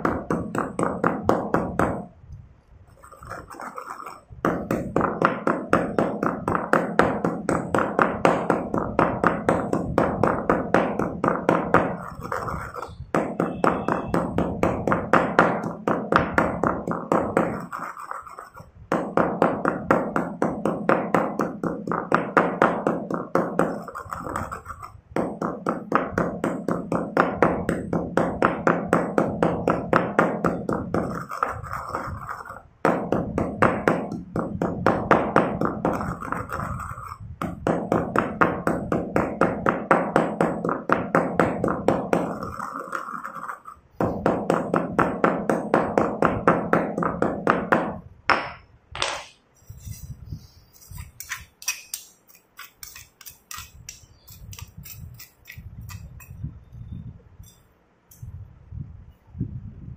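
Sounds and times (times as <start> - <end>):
stone pestle grinding in mortar: 2.9 - 56.4.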